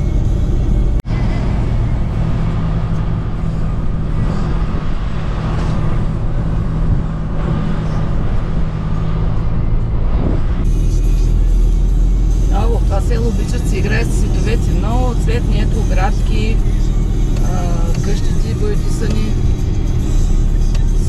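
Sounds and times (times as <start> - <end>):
car engine hum: 0.0 - 21.0
road noise: 0.0 - 21.0.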